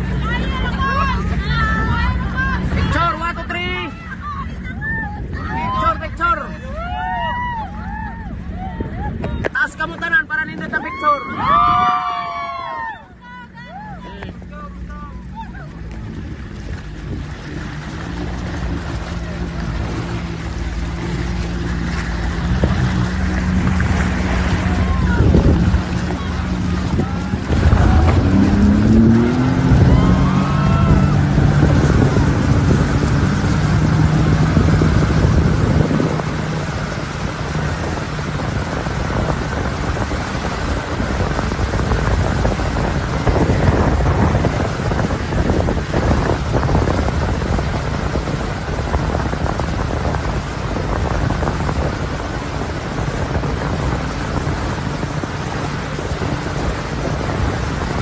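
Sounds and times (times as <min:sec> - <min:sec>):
motorboat engine running: 0:00.0 - 0:58.0
water rushing: 0:00.0 - 0:58.0
wind buffeting microphone: 0:00.0 - 0:58.0.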